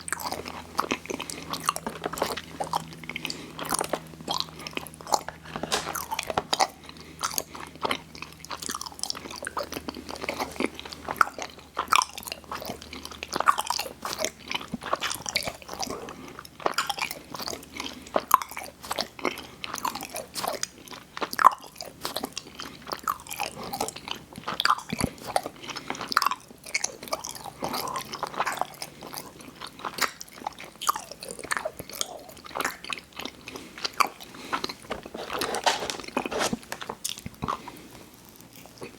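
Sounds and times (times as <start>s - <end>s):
crunchy chewing of sweets: 0.0s - 38.9s.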